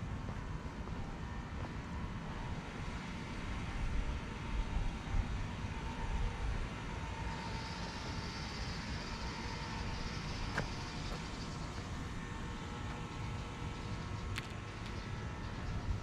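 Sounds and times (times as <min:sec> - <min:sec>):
electrical hum: 0:00.0 - 0:16.0
streetcar low rumble: 0:00.0 - 0:16.0.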